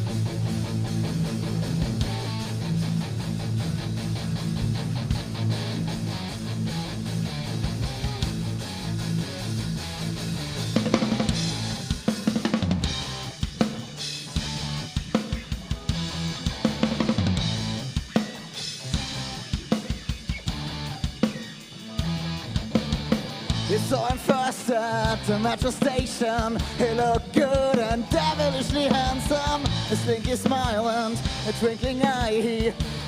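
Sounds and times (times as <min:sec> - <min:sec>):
bass guitar: 0:00.0 - 0:33.0
drum kit: 0:00.0 - 0:33.0
electric guitar: 0:00.0 - 0:33.0.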